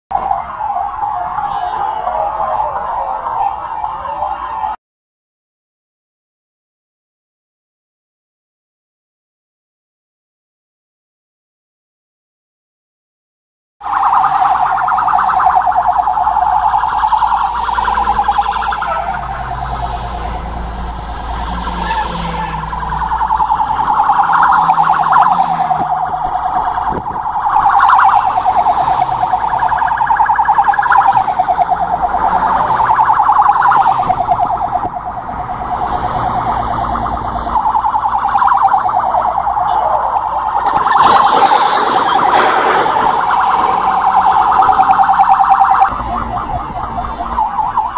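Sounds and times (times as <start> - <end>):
low traffic rumble: 0.1 - 4.8, 13.8 - 47.9
police siren wailing: 0.1 - 4.8, 13.8 - 47.9.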